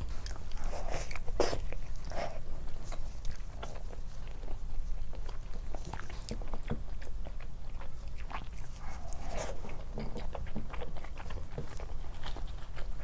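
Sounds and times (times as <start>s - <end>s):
person chewing soft food: 0.0s - 13.0s.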